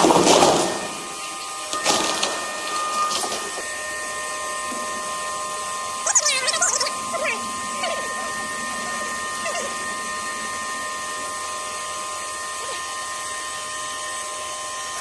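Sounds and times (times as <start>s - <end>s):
machine hiss and whine: 0.0s - 15.0s.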